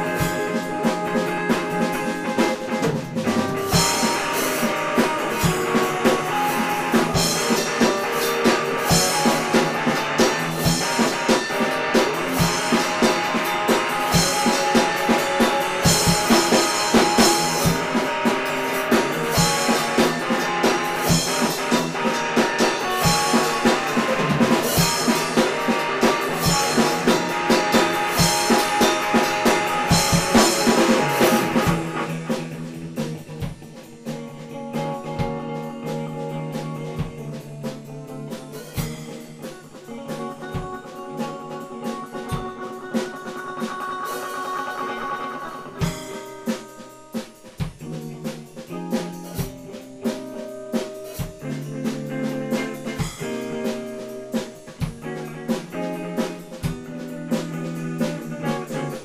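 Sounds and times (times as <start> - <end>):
drum kit beat: 0.0 - 59.0
electric guitar: 0.0 - 59.0.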